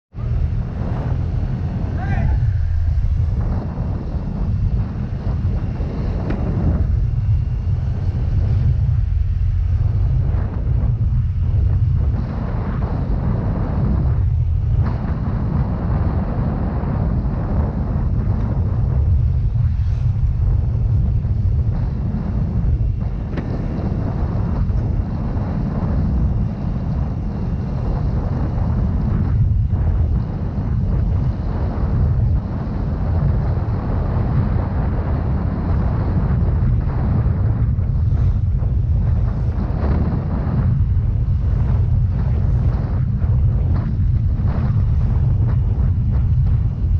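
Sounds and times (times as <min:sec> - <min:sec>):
scooter engine and road rumble: 0:00.1 - 0:46.9
wind buffeting microphone: 0:00.1 - 0:46.9.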